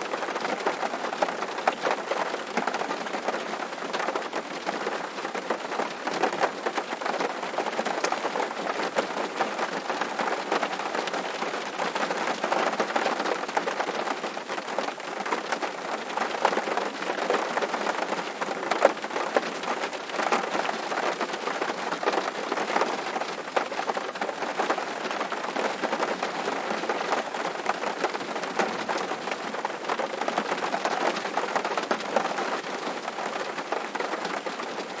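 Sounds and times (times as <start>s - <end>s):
rain drumming on a tin roof: 0.0s - 35.0s.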